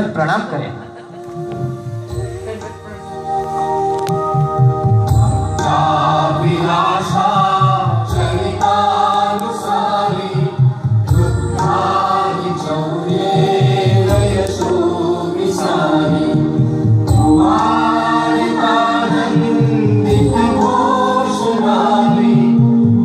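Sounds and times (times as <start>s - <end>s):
steady musical accompaniment: 0.0s - 23.0s.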